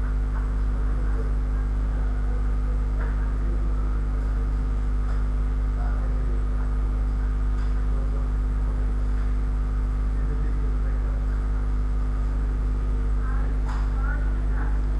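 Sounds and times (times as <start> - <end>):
mains hum with droning tones: 0.0 - 14.9.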